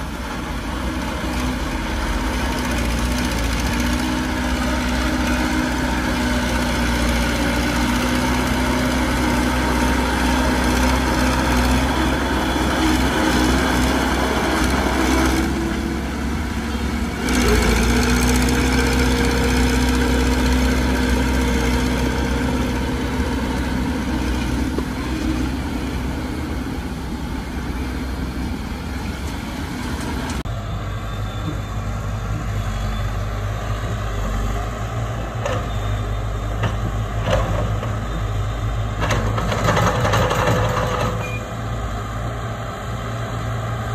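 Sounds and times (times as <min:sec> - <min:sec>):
heavy diesel engines rumbling: 0:00.0 - 0:43.9.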